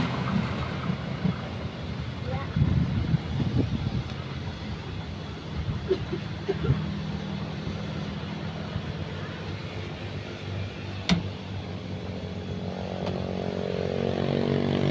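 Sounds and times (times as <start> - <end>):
second engine note rising: 0.0 - 14.9
train diesel engine droning: 0.0 - 14.9.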